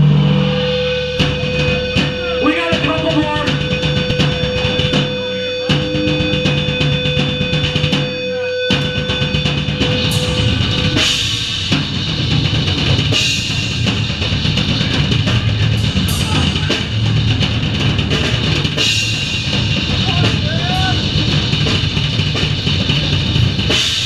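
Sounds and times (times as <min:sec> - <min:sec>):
drum kit: 0:00.0 - 0:24.0
rock band playing live: 0:00.0 - 0:24.0.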